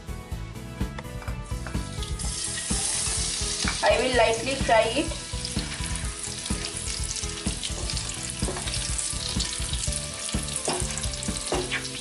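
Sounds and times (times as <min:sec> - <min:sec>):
garlic sizzling in hot oil: 0:01.8 - 0:12.0.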